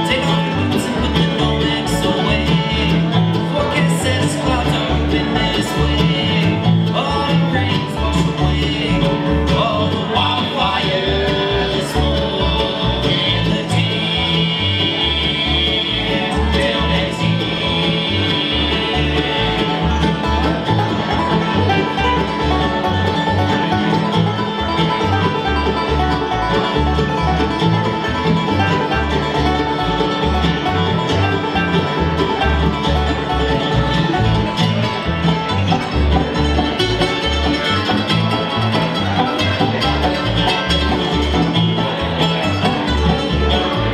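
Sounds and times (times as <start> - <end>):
acoustic guitar: 0.0 - 43.9
banjo: 0.0 - 43.9
mandolin: 0.0 - 43.9
upright bass plucking: 0.0 - 43.9.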